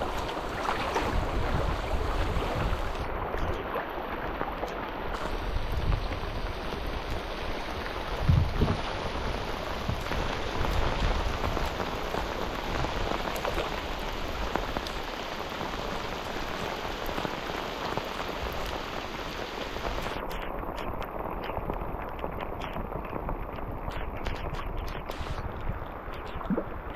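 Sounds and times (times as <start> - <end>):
rain falling on river: 0.0 - 26.9.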